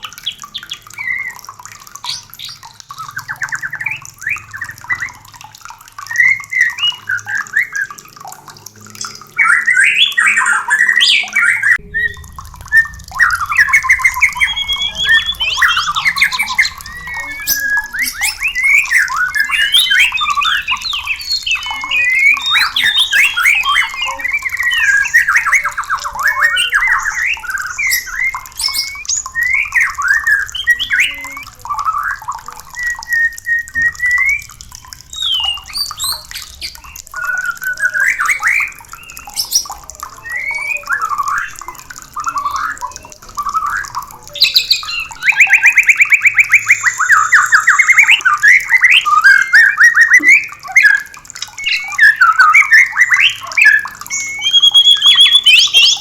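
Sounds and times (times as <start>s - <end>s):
bird whistled song: 0.0s - 8.0s, 9.0s - 56.0s
fast rattling bird trill: 9.4s - 56.0s.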